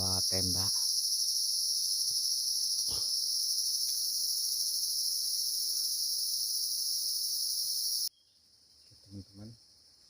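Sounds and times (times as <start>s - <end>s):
forest insects chorus: 0.0s - 10.0s.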